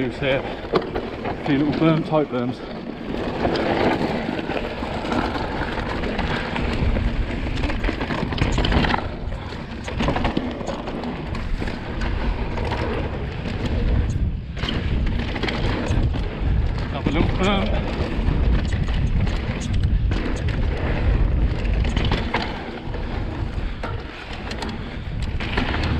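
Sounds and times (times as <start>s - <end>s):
bike clattering: 0.0s - 25.9s
tyres on dirt and gravel: 0.0s - 25.9s
wind on microphone: 3.1s - 25.9s.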